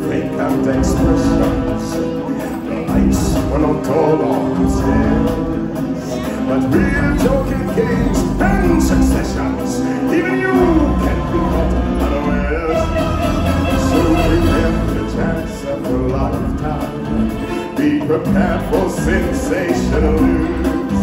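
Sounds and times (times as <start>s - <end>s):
stage music with singing: 0.0s - 21.0s.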